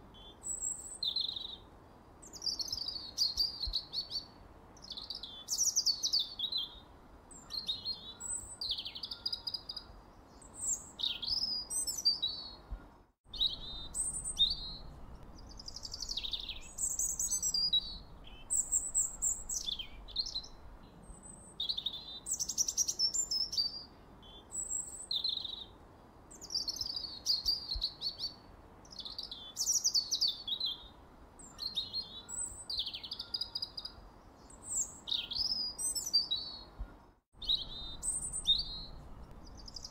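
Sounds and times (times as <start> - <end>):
songbird chirping and whistling: 0.2 - 1.6, 2.2 - 6.8, 7.4 - 12.6, 13.3 - 25.7, 26.4 - 33.9, 34.5 - 36.8, 37.4 - 39.9.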